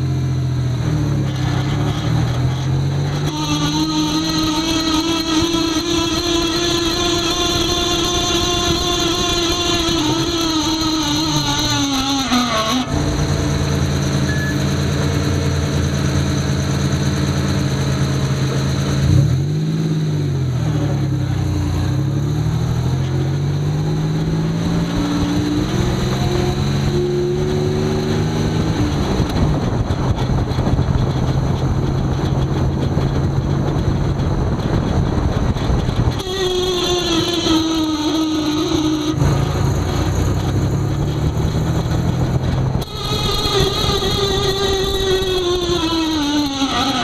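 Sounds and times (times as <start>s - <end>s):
low drivetrain hum: 0.0s - 47.0s.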